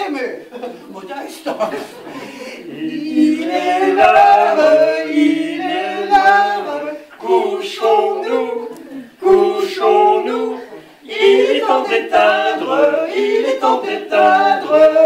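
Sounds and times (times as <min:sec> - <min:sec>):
people singing unaccompanied: 0:02.0 - 0:15.0.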